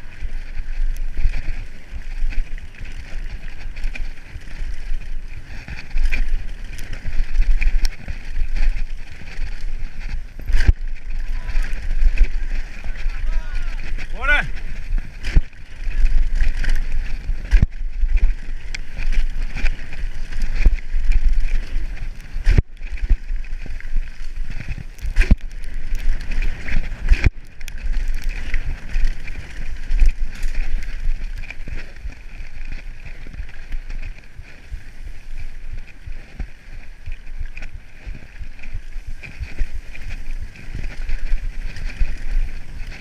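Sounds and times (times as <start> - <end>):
bike frame rattling: 0.0 - 43.0
bike tyres running over dirt: 0.0 - 43.0
wind buffeting microphone: 0.0 - 43.0.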